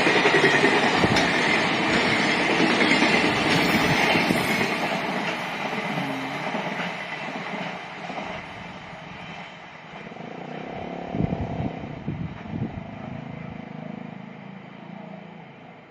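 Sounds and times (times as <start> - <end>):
freight train rumble: 0.0 - 15.9.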